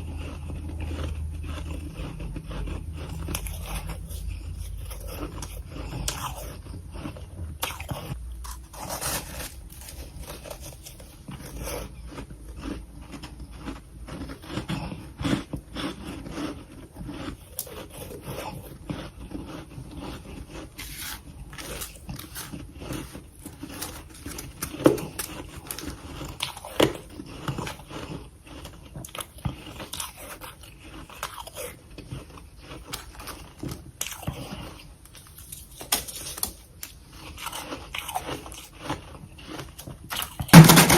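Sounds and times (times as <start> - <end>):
chewing frost crunches: 0.0 - 40.6.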